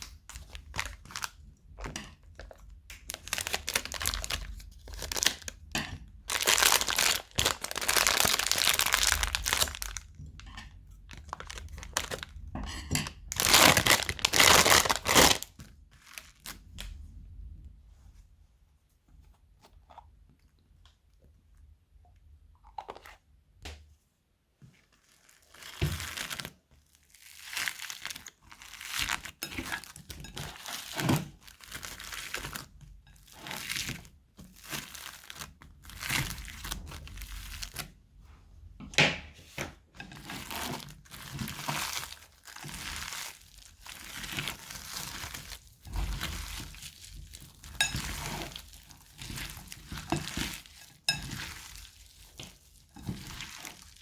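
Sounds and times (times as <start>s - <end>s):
crunchy slime crinkling: 0.0s - 17.1s, 24.8s - 38.0s, 39.5s - 54.0s.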